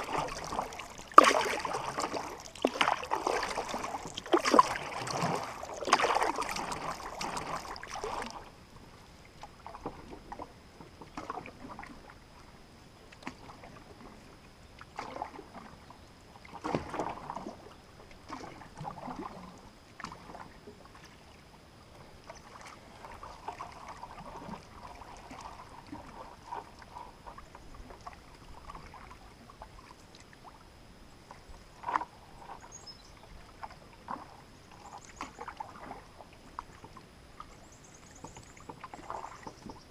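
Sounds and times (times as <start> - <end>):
paddle swishing in water: 0.0 - 8.6, 9.3 - 12.5, 14.9 - 15.8, 16.4 - 21.4, 22.0 - 30.6, 31.2 - 39.9.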